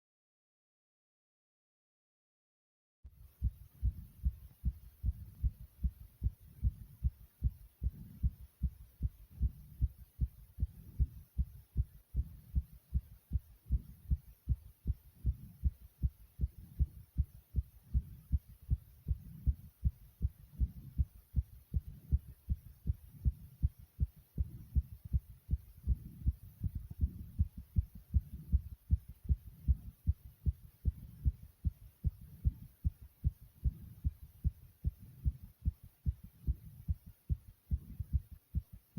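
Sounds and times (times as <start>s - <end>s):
fast heartbeat thumps: 3.2s - 38.9s.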